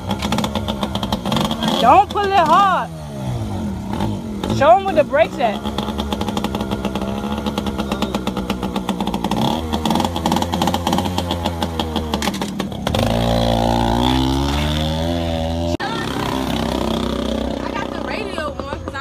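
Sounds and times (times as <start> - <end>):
dirt bike engine idling: 0.0 - 19.0
motorbike engine revving: 0.0 - 19.0.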